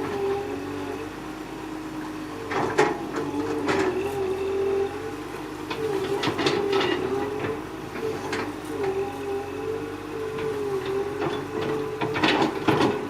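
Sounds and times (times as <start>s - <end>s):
excavator whine: 0.0s - 13.0s
excavator knocks and clanks: 2.1s - 13.0s.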